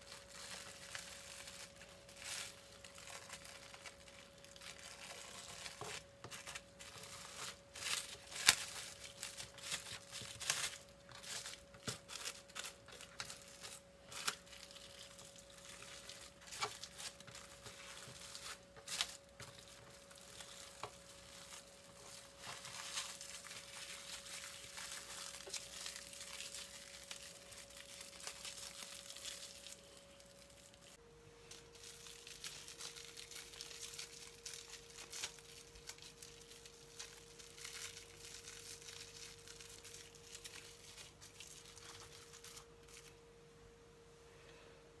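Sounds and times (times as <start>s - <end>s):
cling film crinkling: 0.0s - 43.2s
faint steady hum: 0.0s - 45.0s.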